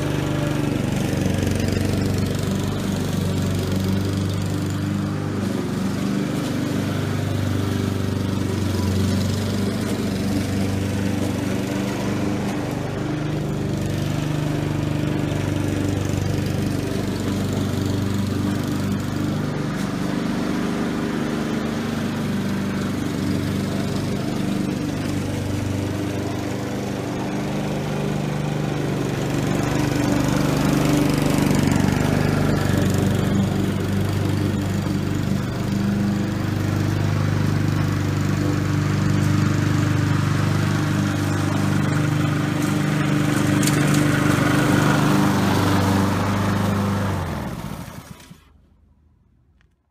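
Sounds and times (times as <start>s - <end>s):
lawn mower engine cutting grass: 0.0s - 48.8s.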